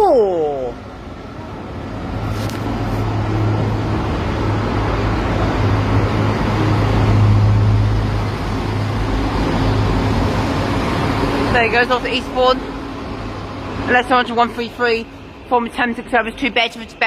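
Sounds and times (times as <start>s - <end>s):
diesel engines humming: 0.0s - 17.0s
train rumble: 1.0s - 17.0s.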